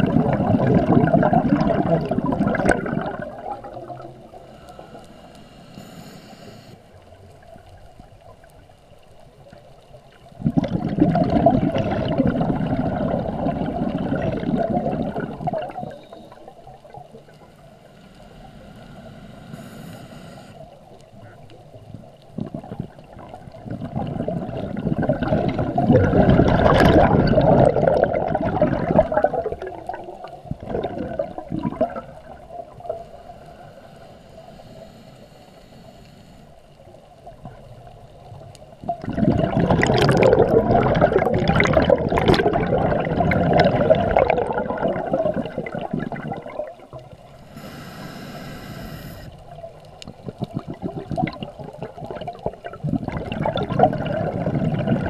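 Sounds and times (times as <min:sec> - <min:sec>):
underwater bubbles rushing: 0:00.0 - 0:05.1, 0:07.0 - 0:18.9, 0:20.6 - 0:34.5, 0:36.7 - 0:47.9, 0:49.3 - 0:55.0.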